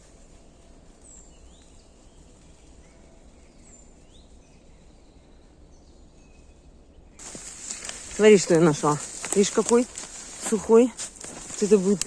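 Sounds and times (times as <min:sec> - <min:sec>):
low background hiss and rumble: 0:00.0 - 0:12.0.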